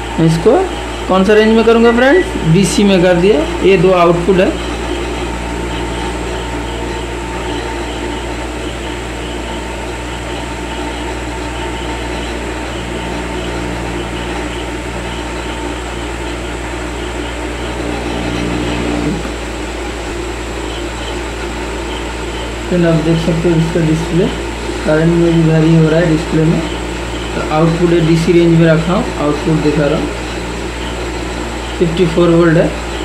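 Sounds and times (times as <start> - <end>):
electrical drone: 0.0 - 33.0
faint high whine: 0.0 - 33.0
fan hum: 0.0 - 33.0.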